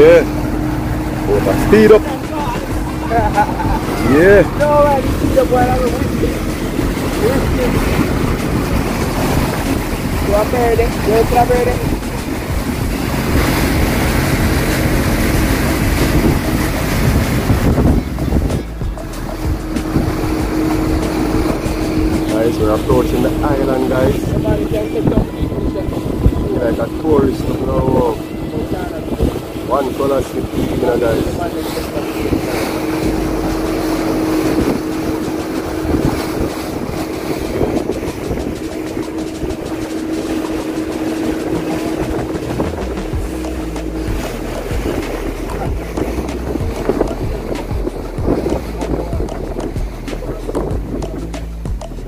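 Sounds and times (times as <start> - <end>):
motorboat engine hum: 0.0 - 52.0
water rushing: 0.0 - 52.0
wind buffeting microphone: 0.0 - 52.0.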